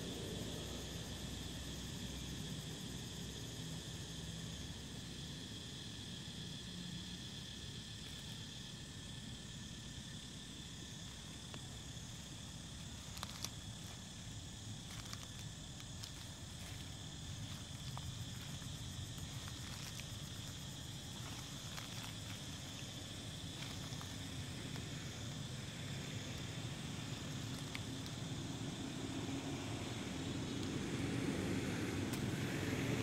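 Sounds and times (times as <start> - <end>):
insects chirring: 0.0 - 33.0
low background rumble: 5.8 - 33.0.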